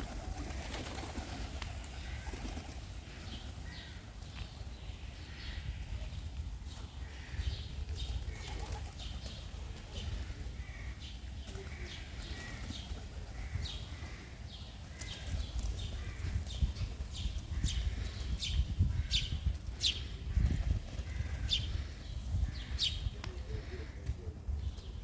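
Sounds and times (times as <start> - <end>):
birds chirping: 0.2 - 24.0.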